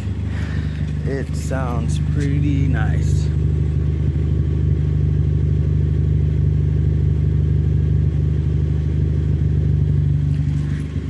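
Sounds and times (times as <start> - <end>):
car engine deep exhaust note: 0.0 - 11.0.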